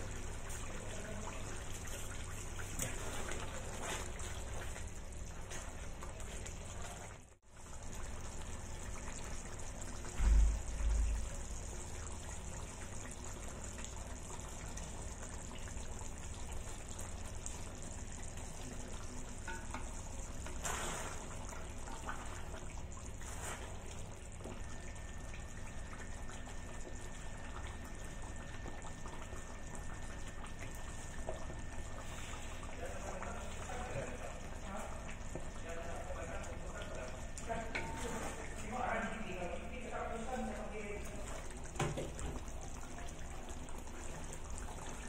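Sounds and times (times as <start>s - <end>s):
sauce bubbling and sizzling: 0.0s - 45.0s.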